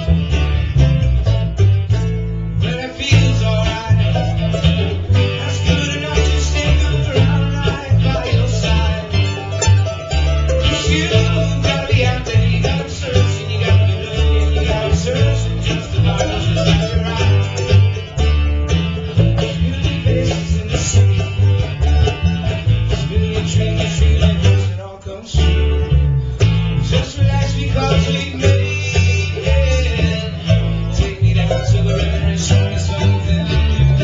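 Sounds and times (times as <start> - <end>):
acoustic guitar: 0.0 - 34.0
mandolin: 0.0 - 34.0
plucked upright bass: 0.0 - 34.0.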